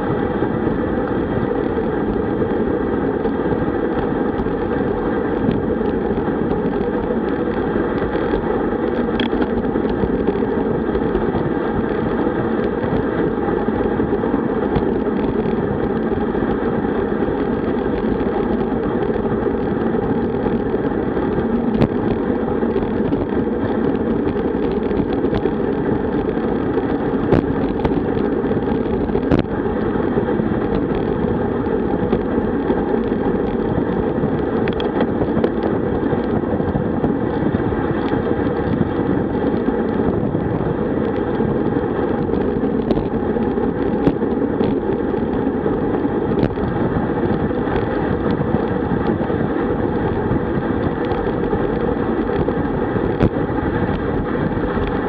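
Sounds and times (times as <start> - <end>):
bike tyre noise: 0.0 - 55.0
wind buffeting microphone: 0.0 - 55.0.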